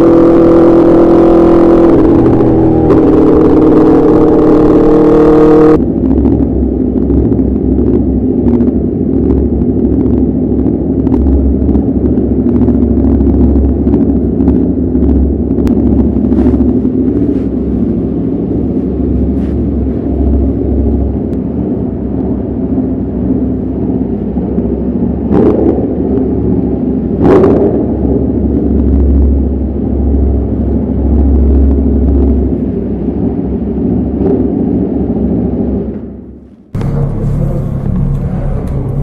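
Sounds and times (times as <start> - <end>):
motorcycle engine rumbling: 0.0 - 39.0
sharp exhaust cracks: 0.0 - 39.0.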